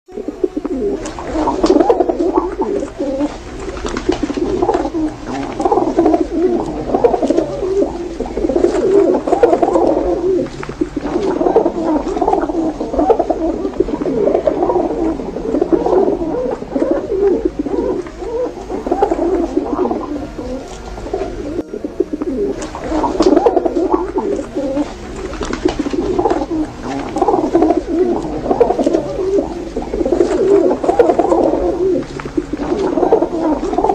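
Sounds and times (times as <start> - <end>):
pigeons cooing: 0.1 - 33.9.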